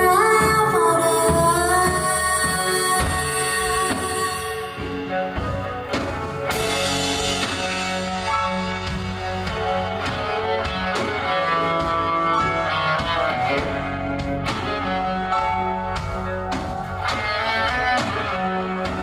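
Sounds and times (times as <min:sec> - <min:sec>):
guitar: 0:00.0 - 0:19.0
live band music: 0:00.0 - 0:19.0.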